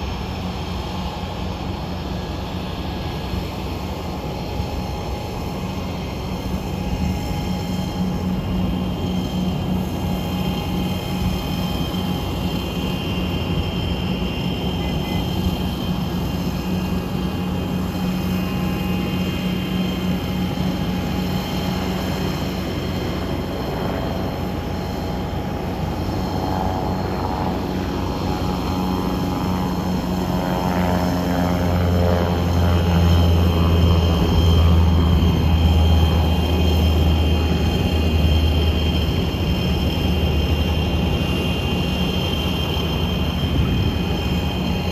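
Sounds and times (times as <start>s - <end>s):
deep jet rumble: 0.0s - 44.9s
jet turbine whine: 0.0s - 44.9s.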